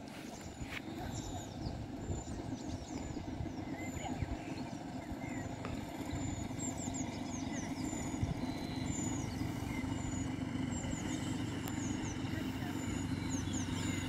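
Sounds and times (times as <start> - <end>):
distant traffic rumble: 0.0 - 14.0
small birds chirping: 0.0 - 14.0.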